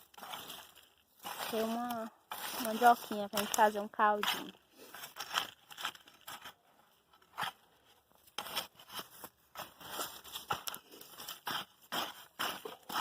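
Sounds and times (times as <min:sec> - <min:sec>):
soil scraping and crunching: 0:00.0 - 0:13.0.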